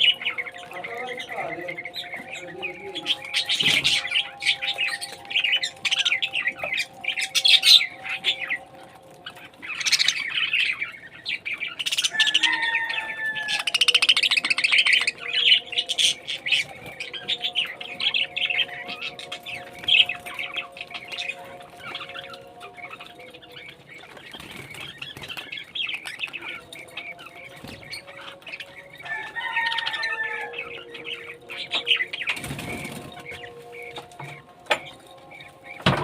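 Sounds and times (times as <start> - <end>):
parrots chirping and squawking: 0.0 - 36.0
rattling chatter: 0.0 - 36.0.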